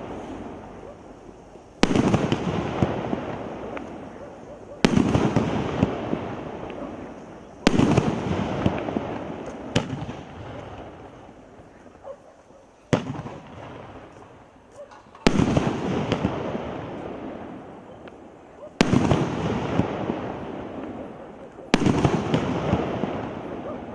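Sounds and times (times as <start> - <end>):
firework bangs: 0.0 - 12.2, 12.8 - 23.9.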